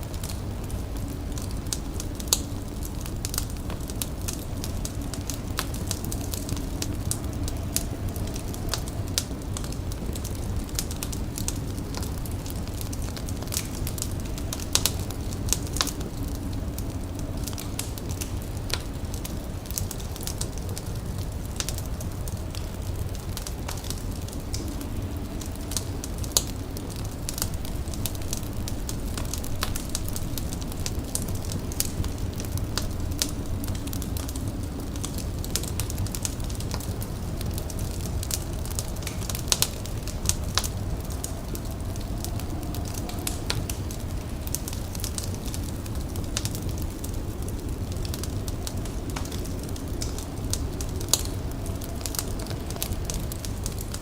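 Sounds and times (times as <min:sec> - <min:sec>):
fire crackling and popping: 0:00.0 - 0:54.0
steady low rumble: 0:00.0 - 0:54.0.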